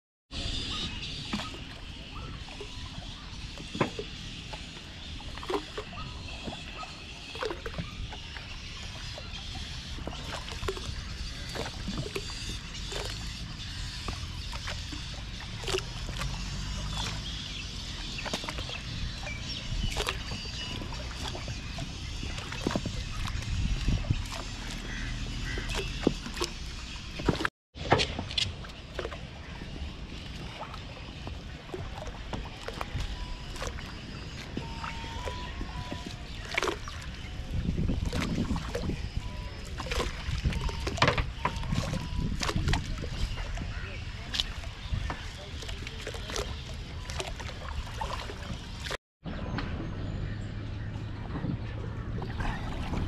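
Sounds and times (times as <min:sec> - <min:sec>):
water splashes and drips: 0:00.4 - 0:49.0, 0:50.8 - 0:53.0.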